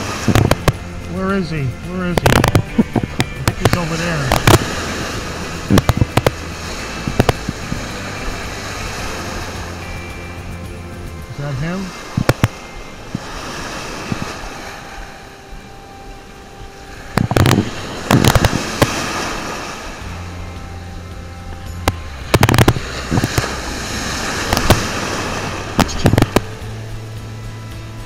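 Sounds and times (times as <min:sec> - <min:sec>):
wind rushing: 0:00.0 - 0:27.1
surf breaking and foaming: 0:00.0 - 0:28.0
waves splashing on microphone: 0:00.0 - 0:28.0.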